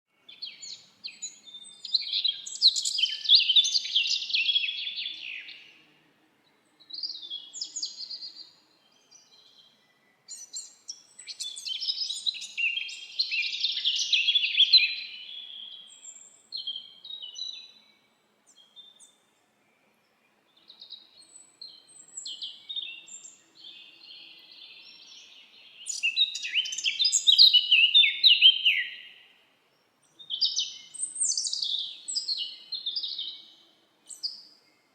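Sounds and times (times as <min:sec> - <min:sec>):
songbird twittering: 0:00.3 - 0:05.7, 0:06.8 - 0:17.9, 0:20.6 - 0:29.3, 0:30.1 - 0:34.8.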